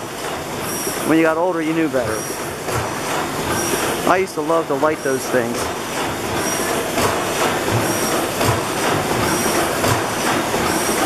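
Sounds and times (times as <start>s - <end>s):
gas engine mechanical clatter: 0.0s - 11.0s
heavy low engine beats: 0.0s - 11.0s.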